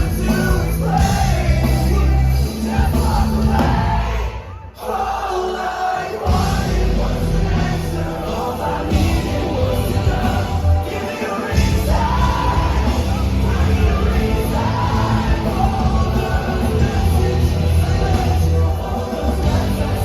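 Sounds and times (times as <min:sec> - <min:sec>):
live rock band playing: 0:00.0 - 0:04.5, 0:06.2 - 0:20.0
yelled sung vocals: 0:00.0 - 0:20.0.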